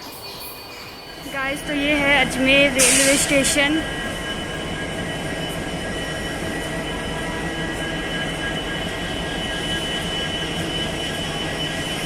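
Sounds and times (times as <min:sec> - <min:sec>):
locomotive running with high whine: 0:00.0 - 0:12.0.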